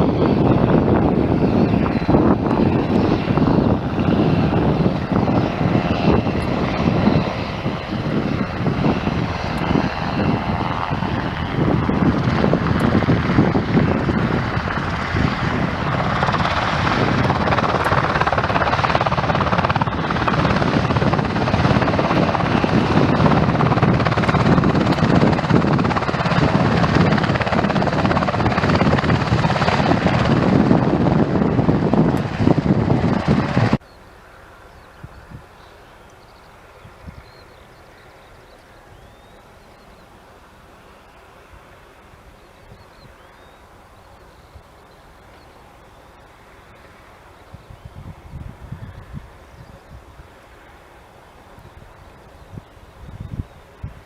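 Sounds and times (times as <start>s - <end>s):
helicopter rotor and turbine: 0.0s - 54.0s.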